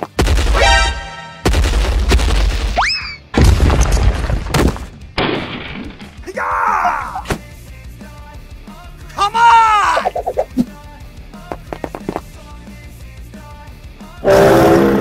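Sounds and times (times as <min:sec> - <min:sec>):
background music: 0:00.0 - 0:03.4, 0:04.6 - 0:15.0.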